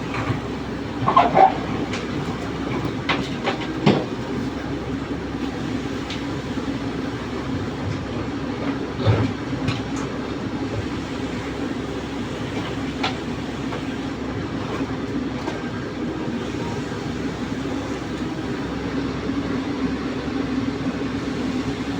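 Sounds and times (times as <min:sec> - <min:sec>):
excavator engine and hydraulics: 0:00.0 - 0:21.9.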